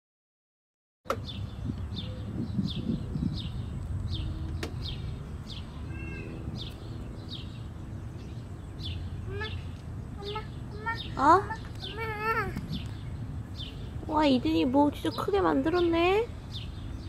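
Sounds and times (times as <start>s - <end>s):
bird chirping: 1.1s - 17.0s.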